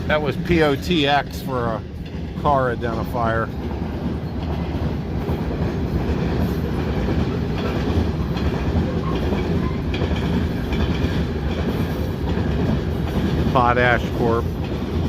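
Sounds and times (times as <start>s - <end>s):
wheels clicking over rail joints: 0.0s - 15.0s.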